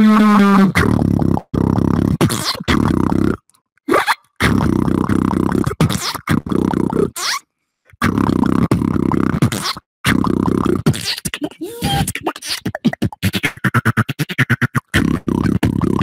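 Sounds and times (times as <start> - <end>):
person beatboxing: 0.0 - 7.4, 8.0 - 16.0.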